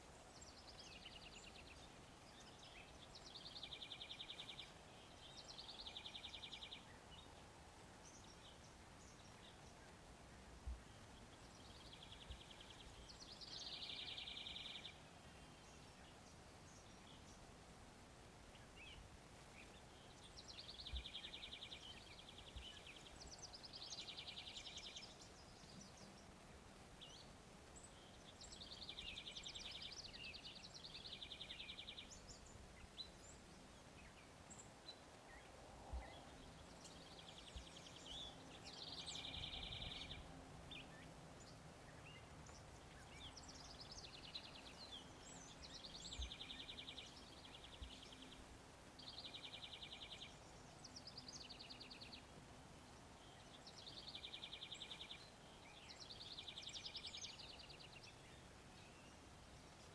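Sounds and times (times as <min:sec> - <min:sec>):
songbird trill: 0:00.0 - 0:59.9.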